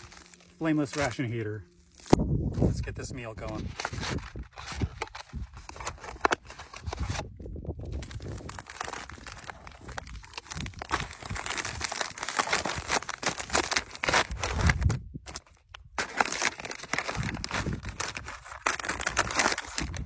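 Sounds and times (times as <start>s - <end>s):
plastic packaging crinkling: 0.0s - 2.2s, 3.2s - 20.0s.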